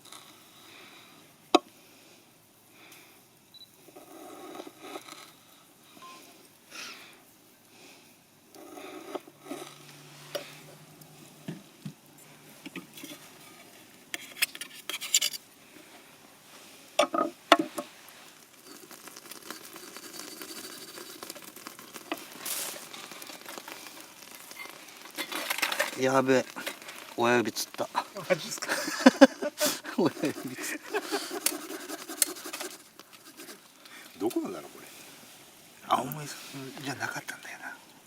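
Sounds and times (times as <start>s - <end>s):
food sizzling on a grill: 0.0s - 37.8s.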